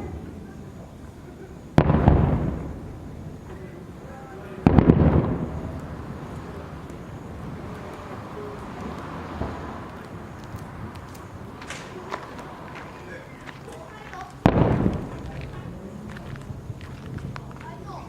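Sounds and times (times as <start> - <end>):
firework shells bursting: 1.6 - 17.6.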